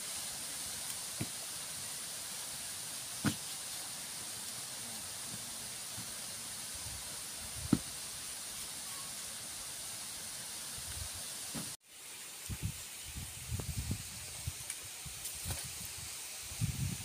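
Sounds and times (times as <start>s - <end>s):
high-pitched hiss: 0.0s - 17.0s.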